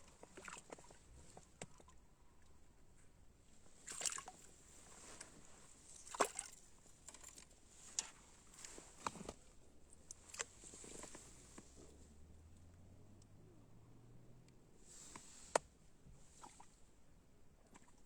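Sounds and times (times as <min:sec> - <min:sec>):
faint water sloshing: 0:00.0 - 0:13.8, 0:14.8 - 0:18.0.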